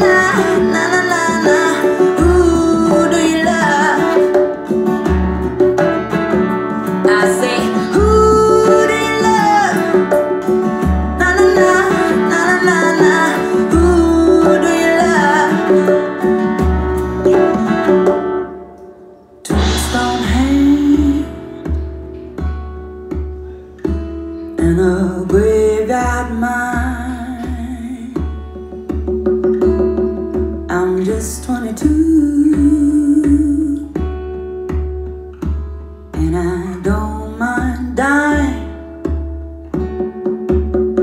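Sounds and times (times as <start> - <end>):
song with singing and guitar: 0.0 - 41.0.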